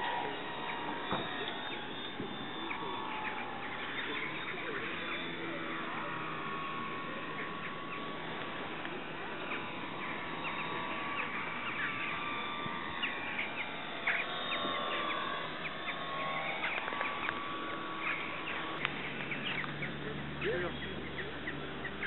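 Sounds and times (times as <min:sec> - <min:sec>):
distant model plane motor whine: 0:00.0 - 0:22.0
small birds chirping: 0:00.0 - 0:22.0
steady outdoor hiss: 0:00.0 - 0:22.0.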